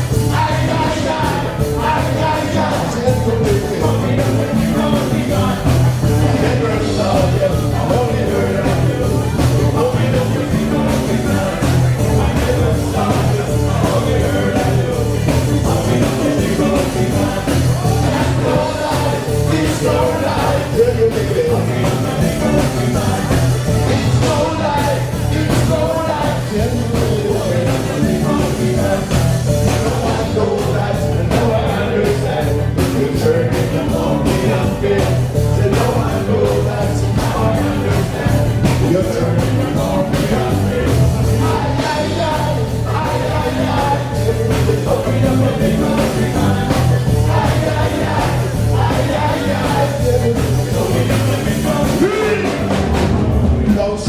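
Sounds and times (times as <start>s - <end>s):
person singing: 0.0s - 54.0s
ska band playing: 0.0s - 54.0s.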